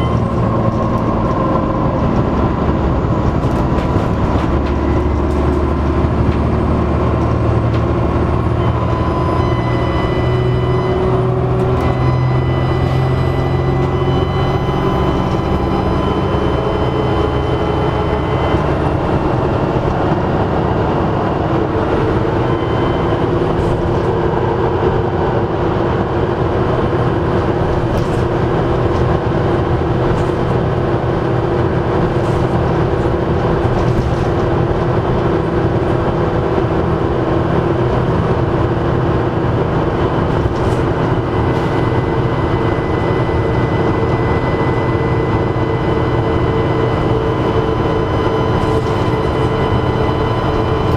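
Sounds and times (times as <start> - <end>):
bus engine and road noise: 0.0 - 50.9
turbocharger whine: 0.0 - 50.9.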